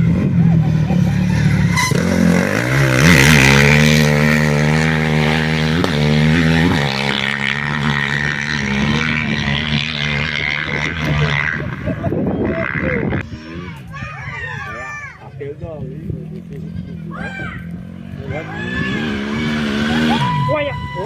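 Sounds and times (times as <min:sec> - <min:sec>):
motorcycle engine passing: 0:00.0 - 0:14.5, 0:15.3 - 0:21.0.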